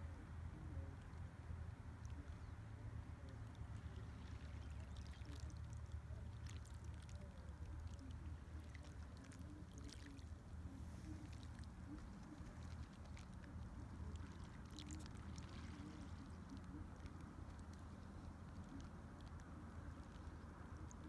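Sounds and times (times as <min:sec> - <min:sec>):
faint trickling water: 0:00.0 - 0:21.0
steady low rumble: 0:00.0 - 0:21.0
small crackles: 0:03.2 - 0:21.0.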